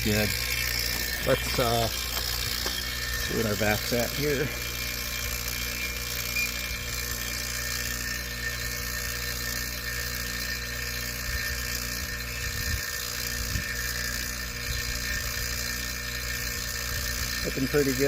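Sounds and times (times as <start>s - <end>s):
vacuum pump motor hum: 0.0s - 18.0s.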